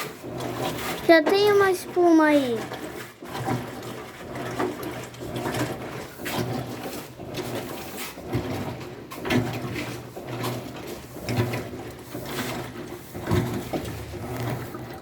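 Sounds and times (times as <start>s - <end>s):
washing machine agitating: 0.0s - 15.0s.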